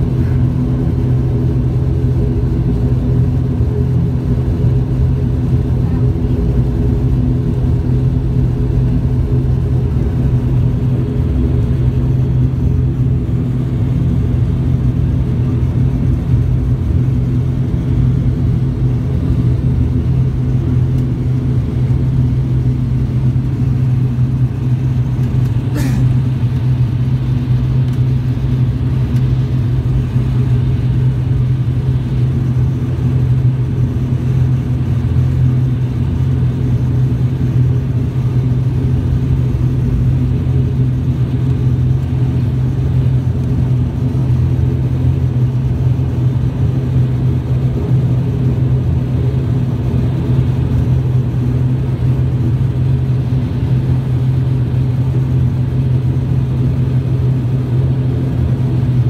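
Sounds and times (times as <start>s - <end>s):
turboprop engines droning in cabin: 0.0s - 59.0s.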